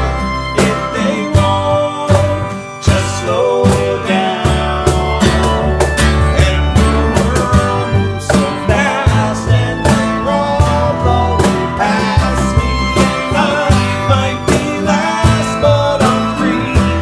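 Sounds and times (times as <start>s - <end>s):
bowed fiddle: 0.0s - 17.0s
man singing: 0.0s - 17.0s
strummed acoustic guitar: 0.0s - 17.0s
upright bass: 0.0s - 17.0s.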